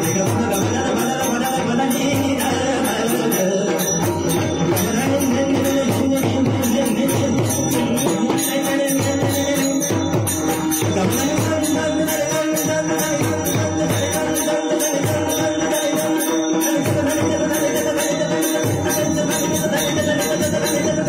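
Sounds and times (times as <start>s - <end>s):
hand cymbals struck rapidly: 0.0s - 21.0s
sustained held tones: 0.0s - 21.0s.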